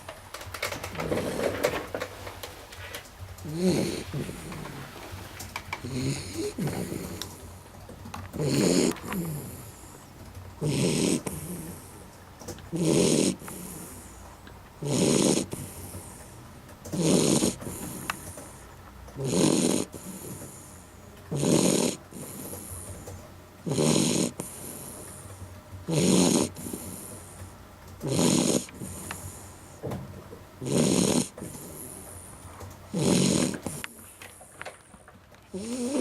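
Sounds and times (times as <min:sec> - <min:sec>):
dog snoring: 0:00.6 - 0:01.8, 0:03.4 - 0:29.9, 0:30.6 - 0:34.6, 0:35.5 - 0:36.0
dog breathing softly: 0:03.5 - 0:07.7, 0:08.4 - 0:12.2, 0:12.8 - 0:29.9, 0:30.6 - 0:34.7.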